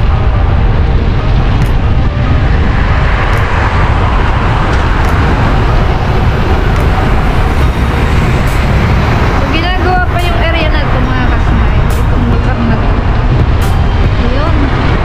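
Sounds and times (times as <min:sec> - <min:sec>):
highway traffic: 0:00.0 - 0:15.0
wind buffeting microphone: 0:00.0 - 0:15.0.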